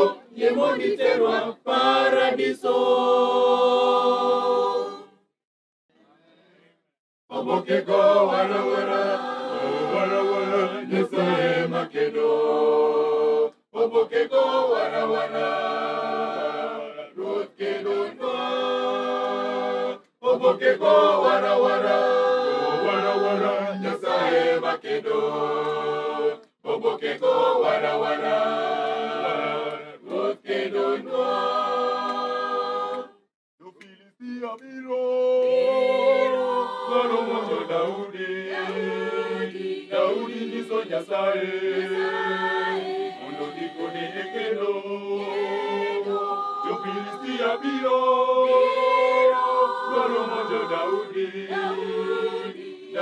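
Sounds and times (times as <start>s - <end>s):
choir singing a cappella: 0.0s - 5.3s, 7.3s - 33.3s, 34.2s - 53.0s.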